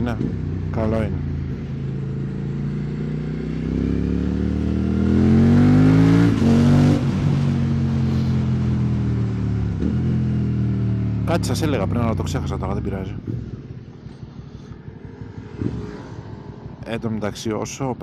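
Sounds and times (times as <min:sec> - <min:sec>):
motorcycle engine accelerating: 0:00.0 - 0:17.4.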